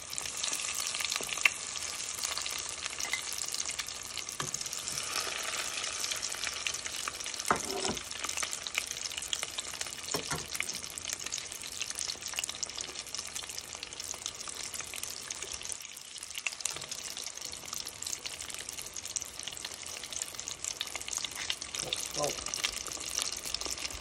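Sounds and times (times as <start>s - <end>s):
food deep-frying in oil: 0.0s - 24.0s.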